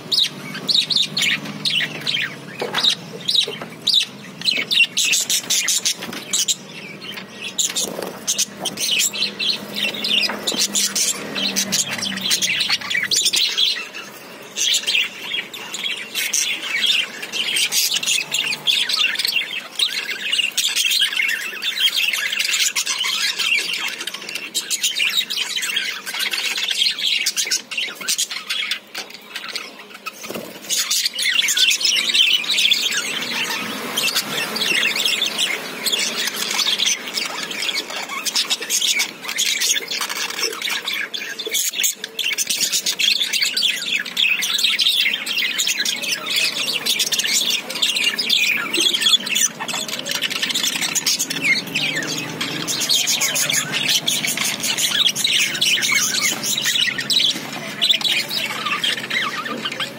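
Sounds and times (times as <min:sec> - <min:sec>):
budgerigars chirping: 0:00.0 - 0:59.9.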